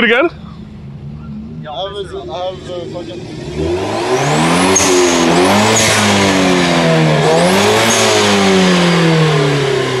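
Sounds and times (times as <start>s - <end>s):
car engine revving: 0.3s - 10.0s.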